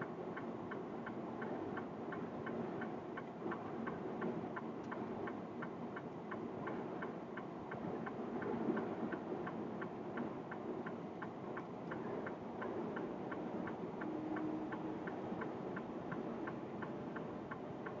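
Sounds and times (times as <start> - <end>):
flasher relay ticking: 0.0 - 18.0
road and engine noise: 0.0 - 18.0.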